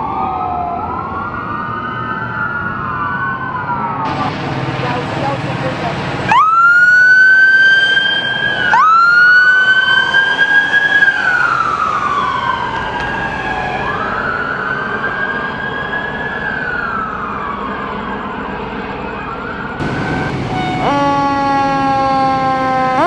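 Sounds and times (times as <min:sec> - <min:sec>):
sirens wailing: 0:00.0 - 0:23.0.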